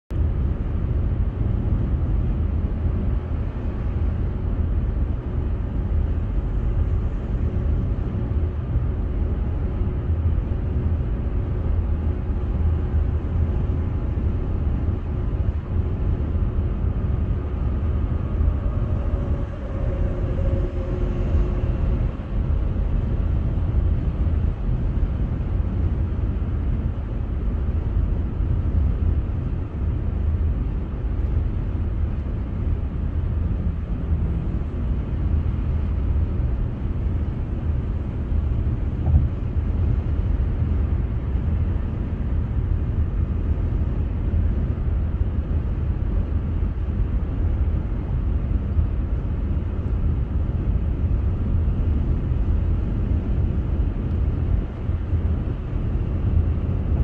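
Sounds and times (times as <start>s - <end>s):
car road noise at highway speed: 0.1s - 57.0s
faint humming tone: 0.2s - 57.0s.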